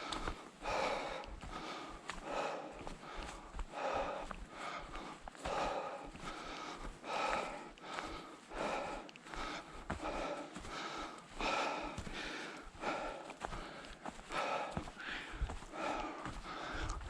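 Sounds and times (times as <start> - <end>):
light footsteps: 0.0 - 17.0
person breathing hard: 0.0 - 17.0.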